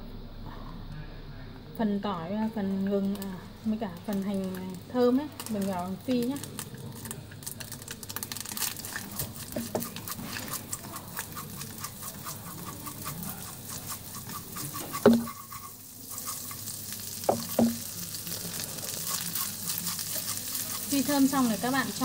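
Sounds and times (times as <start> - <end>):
food sizzling in hot oil: 2.7 - 22.0.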